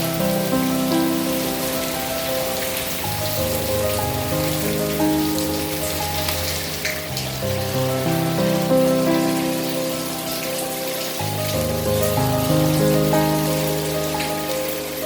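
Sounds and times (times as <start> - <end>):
music of sustained chords: 0.0 - 15.0
steady rain falling: 0.0 - 15.0.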